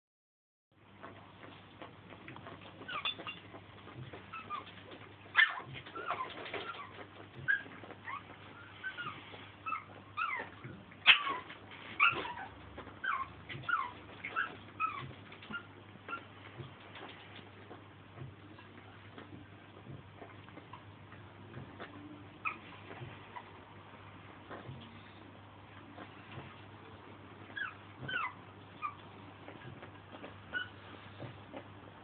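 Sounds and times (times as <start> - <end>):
puppies whimpering: 2.5 - 23.7, 25.9 - 31.6.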